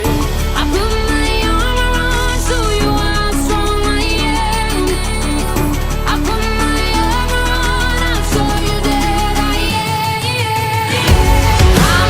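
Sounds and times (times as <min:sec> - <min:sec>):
bass drone: 0:00.0 - 0:09.7, 0:11.1 - 0:12.0.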